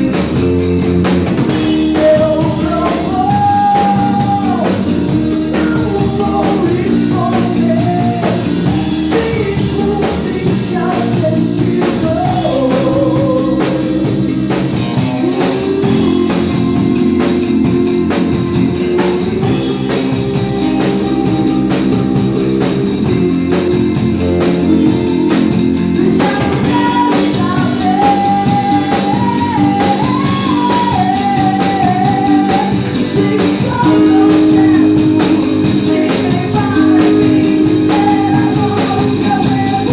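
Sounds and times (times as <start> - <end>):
drum kit: 0.0 - 39.9
guitar: 0.0 - 39.9
rock band playing: 0.0 - 39.9
person singing: 1.5 - 39.9.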